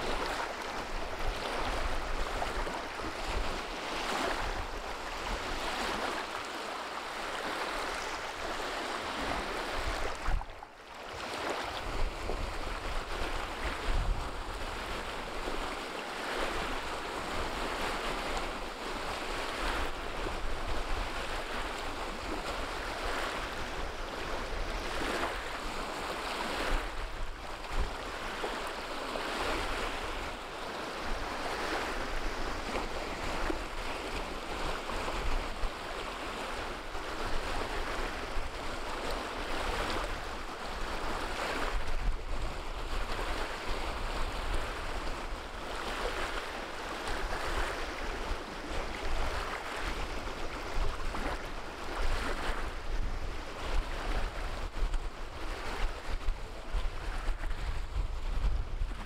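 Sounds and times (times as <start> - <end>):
wind rumble on microphone: 0.0 - 6.5, 7.2 - 59.0.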